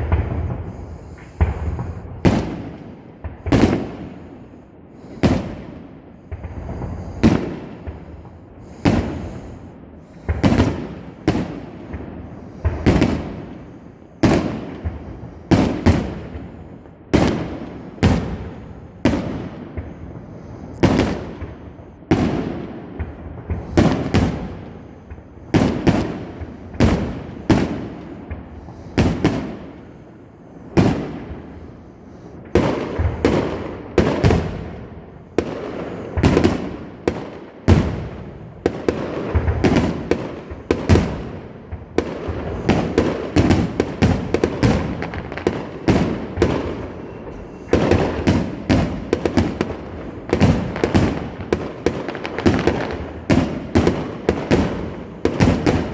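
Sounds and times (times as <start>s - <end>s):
fireworks bangs and crackle: 0.0s - 55.9s.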